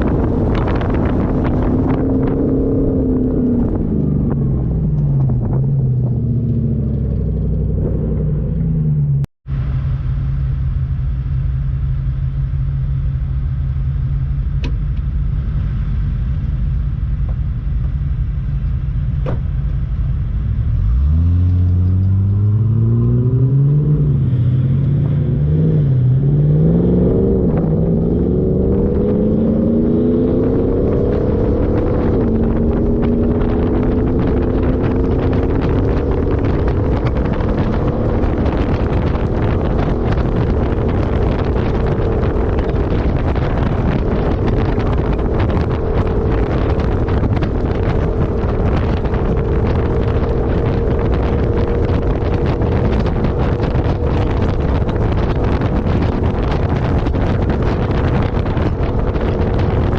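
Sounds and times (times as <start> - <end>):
off-road vehicle engine revving: 0.0 - 9.3, 19.1 - 59.9.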